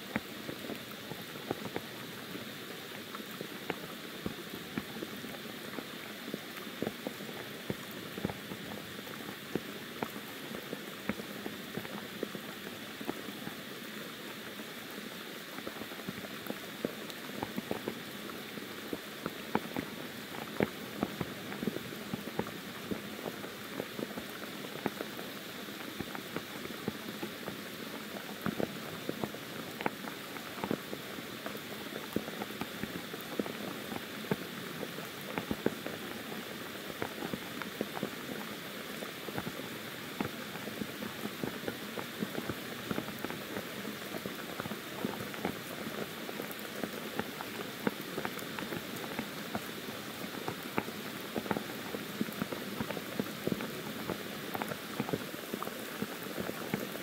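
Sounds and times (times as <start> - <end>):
rain pouring on foliage: 0.0 - 57.0
raindrops ticking: 0.0 - 57.0.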